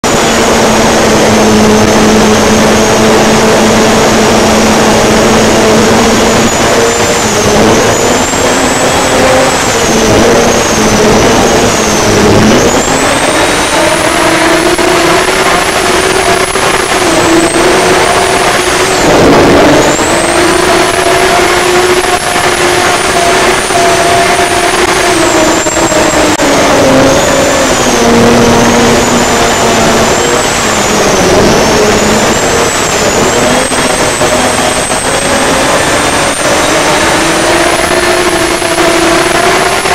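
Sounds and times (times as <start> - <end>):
high turbo whistle: 0.0 - 39.9
race boat engine revving hard: 0.0 - 39.9.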